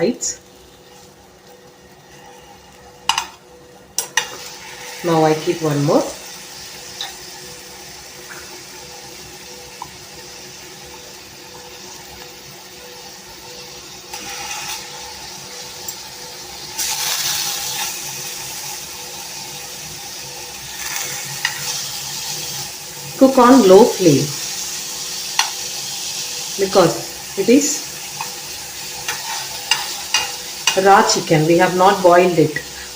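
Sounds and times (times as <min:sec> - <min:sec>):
meat sizzling in oil: 0:00.0 - 0:32.9.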